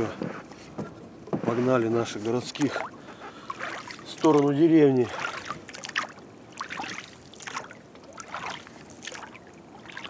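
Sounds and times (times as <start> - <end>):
oars splashing through water: 0.0 - 10.0.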